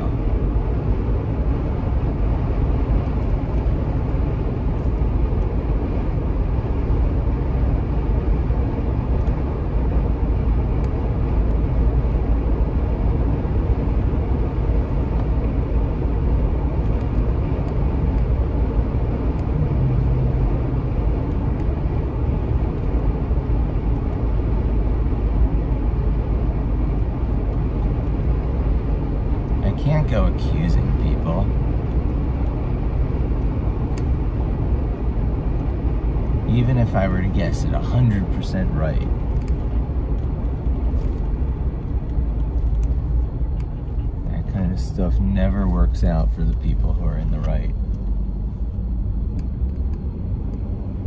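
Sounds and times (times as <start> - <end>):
road and engine noise inside car: 0.0 - 51.0.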